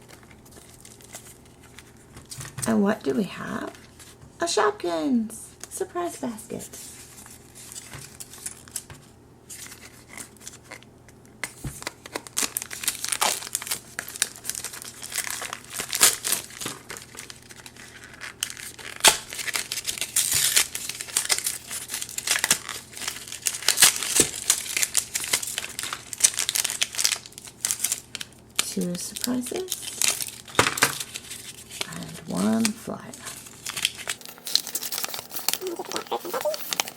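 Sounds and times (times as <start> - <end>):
plastic wrapping crinkling and tearing: 0.0 - 2.7, 6.6 - 36.9.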